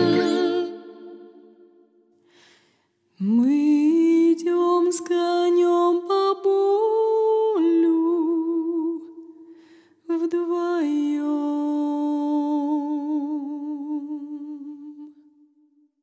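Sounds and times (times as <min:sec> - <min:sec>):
woman singing wordless melody: 0:00.0 - 0:01.6, 0:03.2 - 0:09.3, 0:10.1 - 0:15.3.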